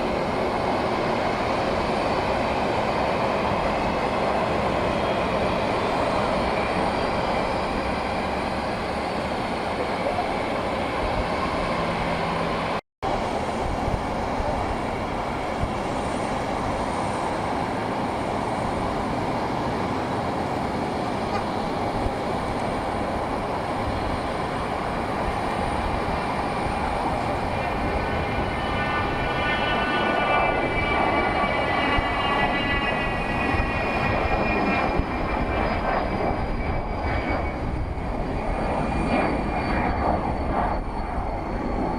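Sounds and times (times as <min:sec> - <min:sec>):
jet engines rushing: 0:00.0 - 0:41.9.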